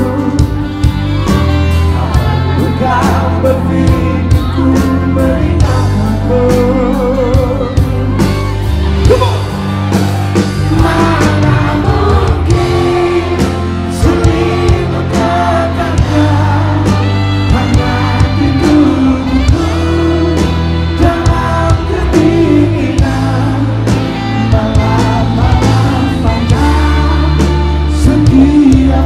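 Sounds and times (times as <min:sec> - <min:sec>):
man singing: 0:00.0 - 0:09.6, 0:10.6 - 0:29.0
bass guitar: 0:00.0 - 0:29.0
drums: 0:00.0 - 0:29.0.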